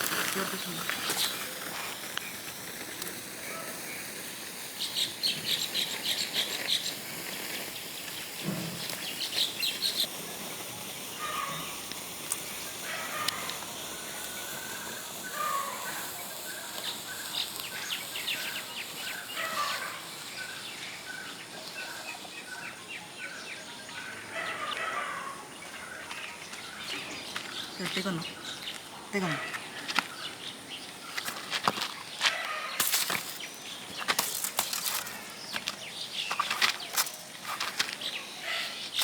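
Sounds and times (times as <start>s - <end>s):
high-pitched hiss: 0.0s - 39.0s
birds chirping and calling: 4.8s - 10.2s, 10.8s - 39.0s.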